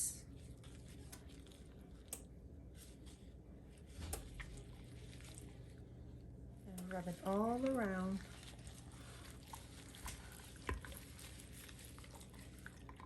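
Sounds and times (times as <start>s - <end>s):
wet squishing of raw chicken: 0.3s - 13.0s.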